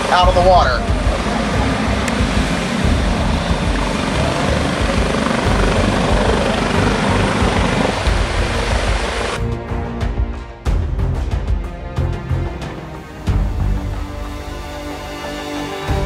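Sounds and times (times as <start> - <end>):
helicopter rotor and turbine noise: 0.0 - 16.0.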